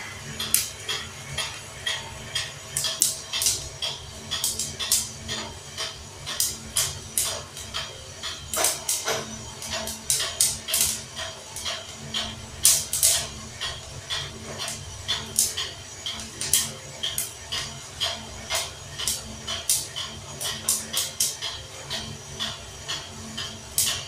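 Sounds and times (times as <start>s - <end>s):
roaster humming: 0.0s - 24.0s.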